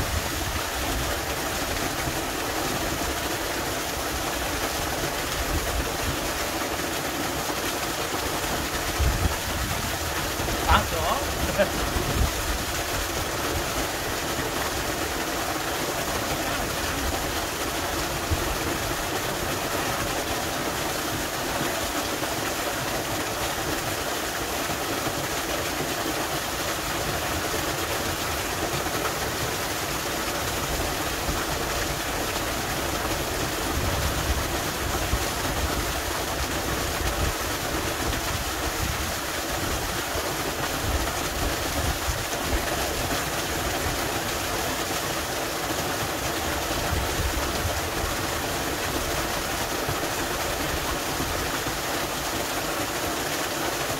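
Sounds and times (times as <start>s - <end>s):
small waterfall rushing: 0.0s - 53.9s.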